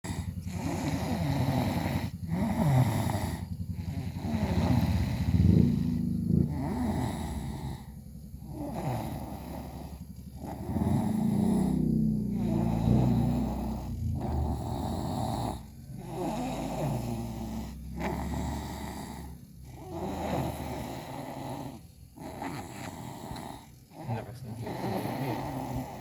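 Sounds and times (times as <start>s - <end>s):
rhythmic snoring: 0.0s - 26.0s.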